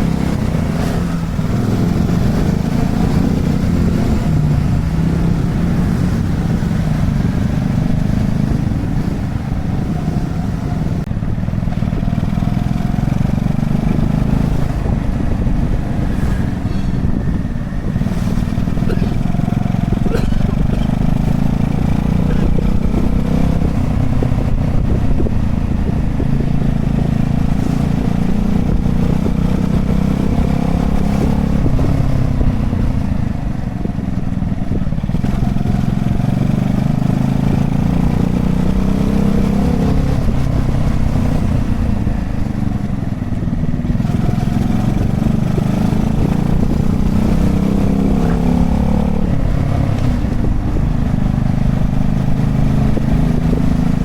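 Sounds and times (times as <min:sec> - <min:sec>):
small motorbike engine revving: 0:00.0 - 0:11.0, 0:12.0 - 0:33.1, 0:34.7 - 0:54.0.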